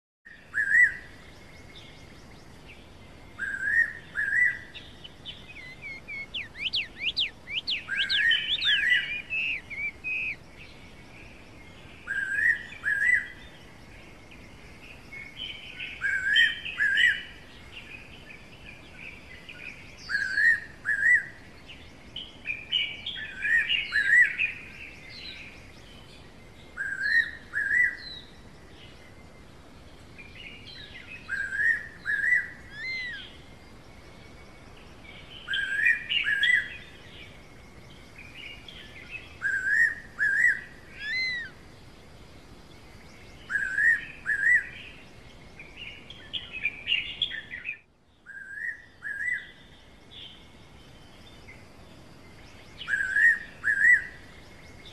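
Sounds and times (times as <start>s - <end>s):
small birds chirping and trilling: 0.3s - 54.9s.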